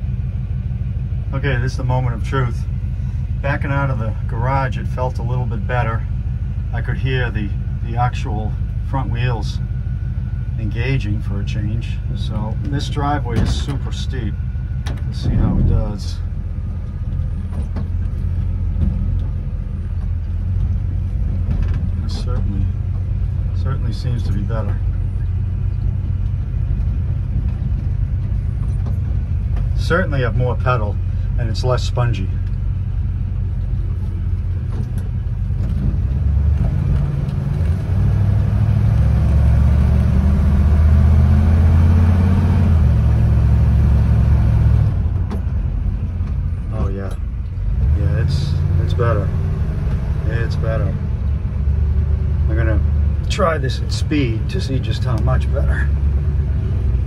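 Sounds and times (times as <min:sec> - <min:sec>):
car low rumble: 0:00.0 - 0:57.0
road noise: 0:00.0 - 0:57.0.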